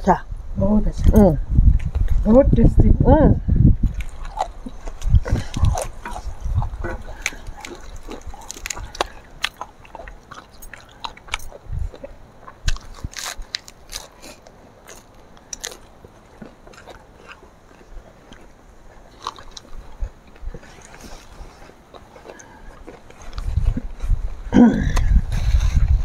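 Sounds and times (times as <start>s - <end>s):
people chewing and crunching food: 1.1s - 2.3s, 3.4s - 26.0s.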